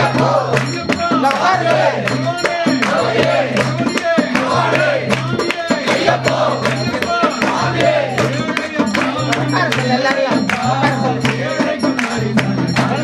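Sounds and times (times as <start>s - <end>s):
group singing: 0.0s - 13.0s
rhythmic percussion strikes: 0.0s - 13.0s.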